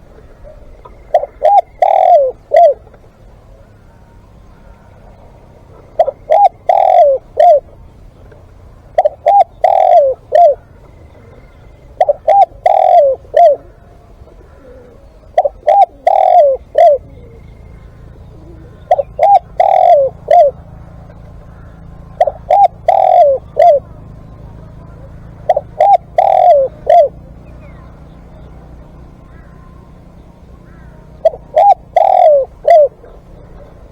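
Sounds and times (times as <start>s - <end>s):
dove cooing: 0.0s - 33.9s.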